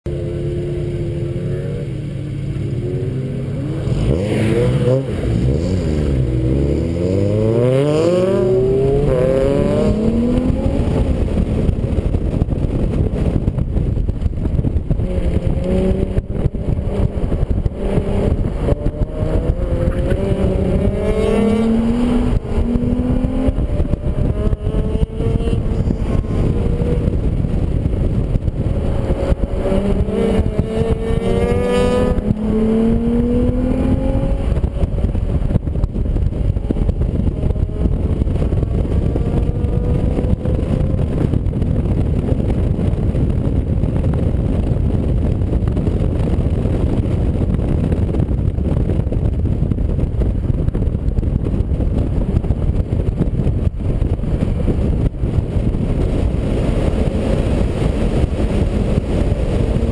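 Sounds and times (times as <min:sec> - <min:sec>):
car engine accelerating: 0:00.1 - 0:48.2.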